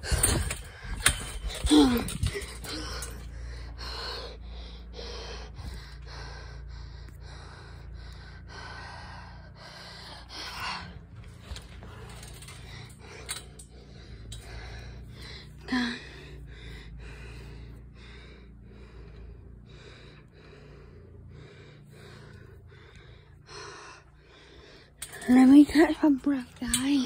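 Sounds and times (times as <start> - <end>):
person panting hard: 0.0 - 26.6.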